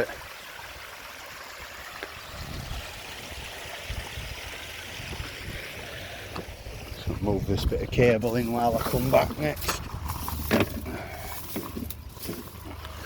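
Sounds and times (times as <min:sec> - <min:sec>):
waterfall splashing and trickling: 0:00.0 - 0:13.0
low rumbling: 0:02.3 - 0:13.0.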